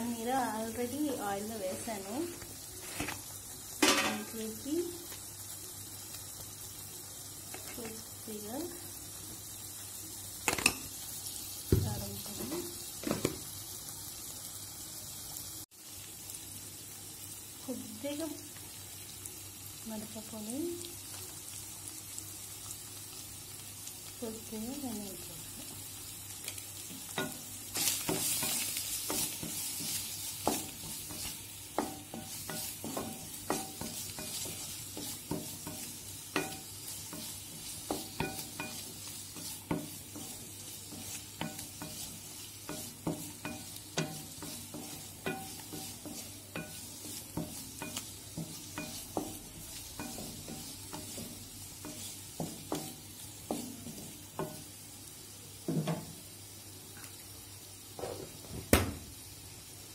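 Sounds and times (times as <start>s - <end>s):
cheese cubes sizzling in oil: 0.0s - 59.9s.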